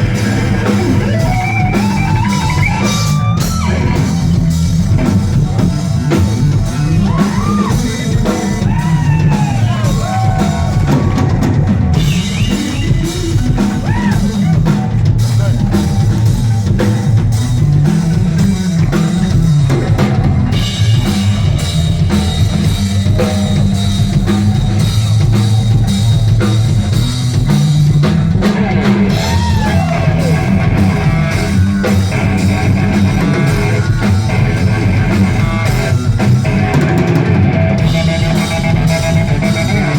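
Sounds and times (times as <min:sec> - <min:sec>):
bass: 0:00.0 - 0:39.9
drum kit with cymbals: 0:00.0 - 0:39.9
electric guitar with bending notes: 0:00.0 - 0:39.9.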